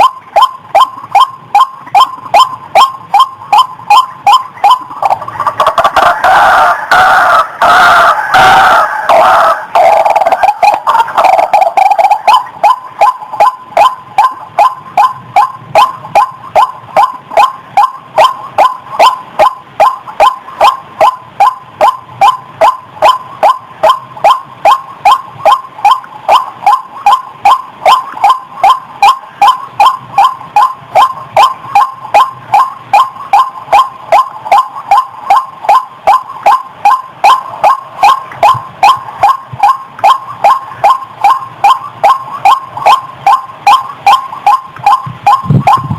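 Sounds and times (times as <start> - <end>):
waterhen calling: 0.0 - 45.9.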